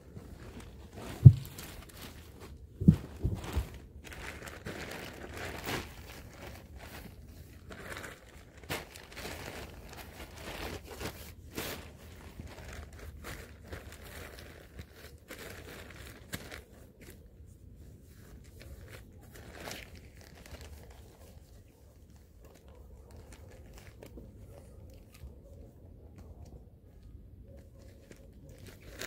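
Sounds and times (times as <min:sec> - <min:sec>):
crinkling handling noises: 0:00.0 - 0:29.0.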